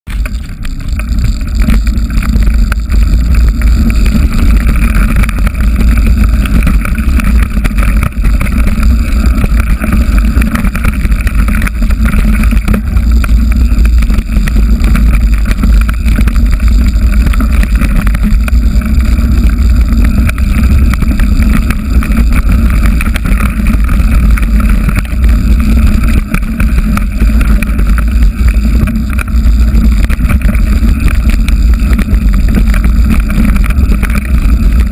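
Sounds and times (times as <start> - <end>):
bike rattling over rough trail: 0.1 - 34.9
wind buffeting microphone: 0.1 - 34.9.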